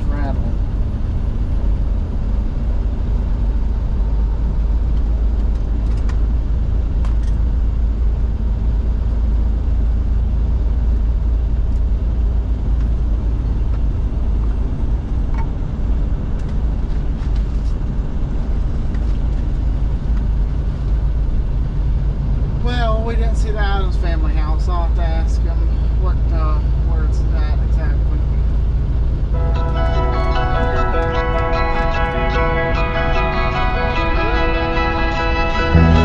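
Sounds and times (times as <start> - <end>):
truck engine and road noise: 0.0 - 36.0.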